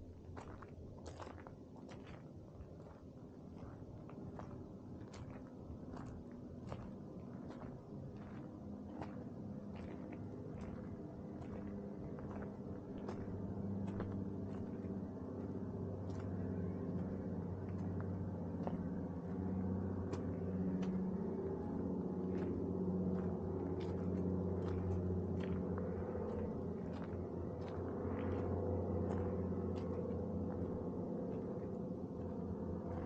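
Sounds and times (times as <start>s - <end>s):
footsteps crunching on gravel: 0.0s - 33.0s
low steady drone: 0.0s - 33.0s.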